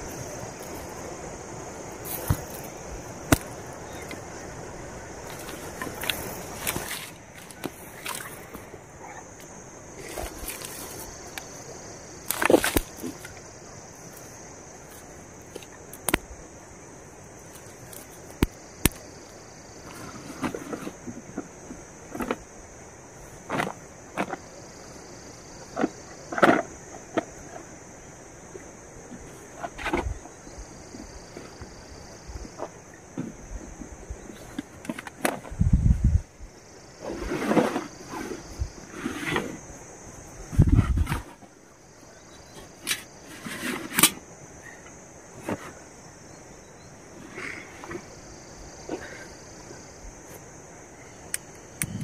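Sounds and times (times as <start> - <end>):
high-pitched hiss: 0.0 - 52.0.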